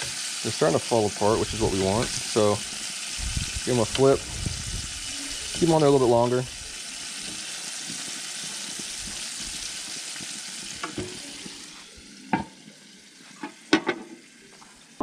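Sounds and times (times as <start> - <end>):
fish sizzling in oil: 0.0 - 15.0.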